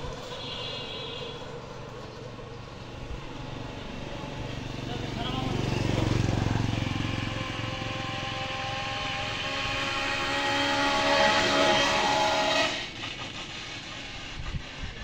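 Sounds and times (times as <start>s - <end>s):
steady engine drone: 0.0s - 15.0s.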